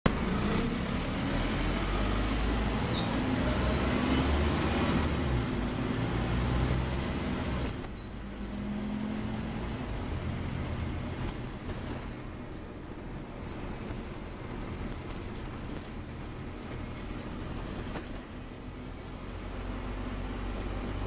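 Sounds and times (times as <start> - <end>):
bus engine rumble: 0.0 - 21.0
road noise: 0.1 - 21.0.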